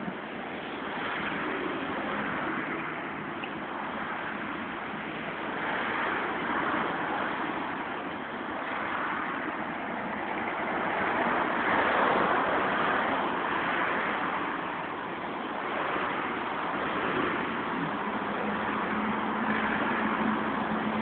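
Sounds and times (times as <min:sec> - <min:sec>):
car passing: 0:00.0 - 0:21.0
road traffic hiss: 0:00.0 - 0:21.0.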